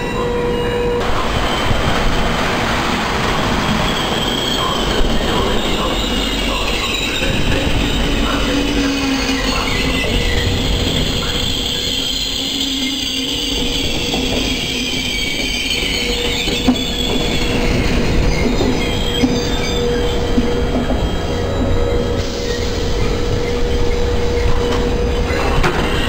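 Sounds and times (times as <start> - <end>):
brakes and wheels squealing: 0.0 - 26.0
train running gear rumble: 0.0 - 26.0.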